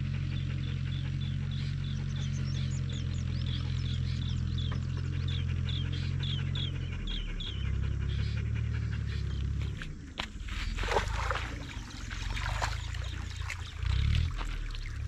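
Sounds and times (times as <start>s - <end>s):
dogs panting: 0.0s - 14.6s
steady low hum: 0.0s - 15.0s.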